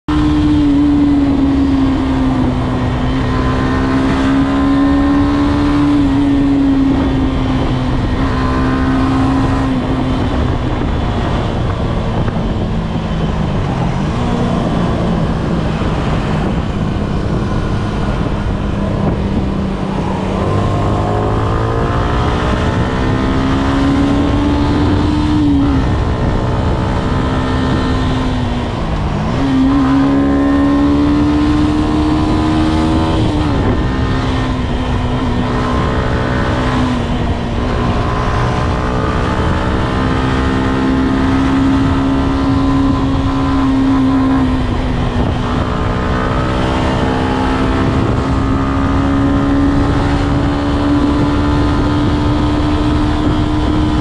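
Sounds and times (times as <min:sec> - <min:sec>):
motorcycle engine running: 0:00.1 - 0:54.0.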